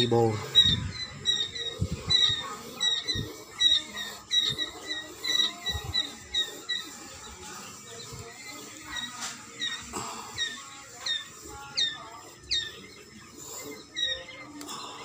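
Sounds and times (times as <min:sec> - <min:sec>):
small animals peeping: 0:00.0 - 0:15.0.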